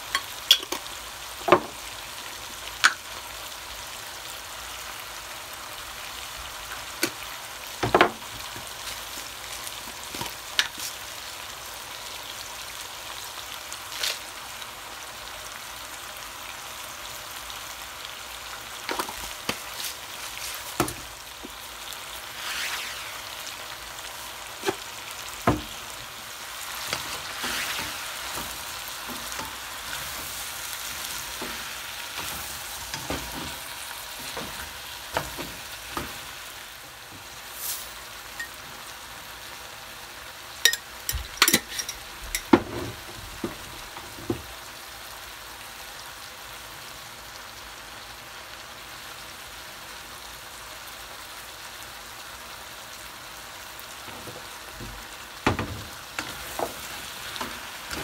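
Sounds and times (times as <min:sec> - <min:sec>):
chicken and onions sizzling: 0:00.0 - 0:58.0.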